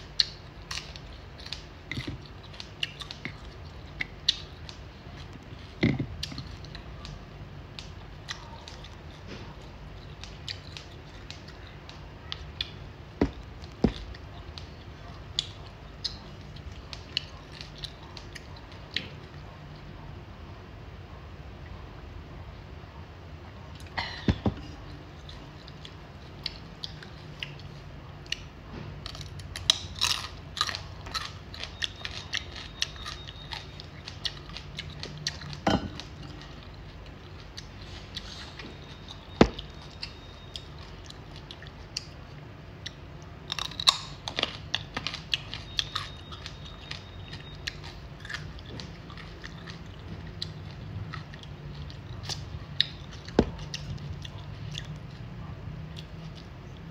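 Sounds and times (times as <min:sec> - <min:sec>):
chewing raw carrot: 0:00.0 - 0:20.0, 0:23.6 - 0:56.9.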